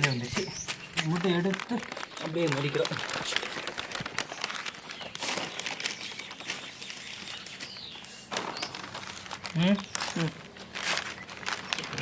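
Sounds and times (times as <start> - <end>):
newspaper rustling and crinkling: 0.0 - 12.0.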